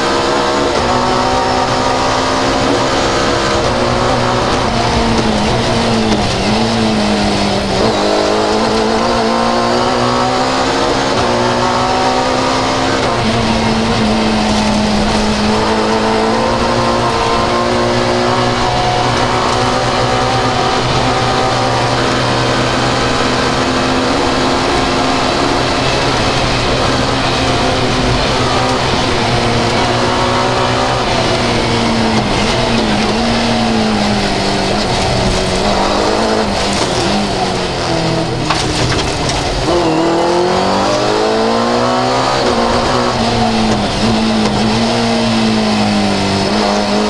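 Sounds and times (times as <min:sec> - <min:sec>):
rally car engine running hard: 0:00.0 - 0:47.0.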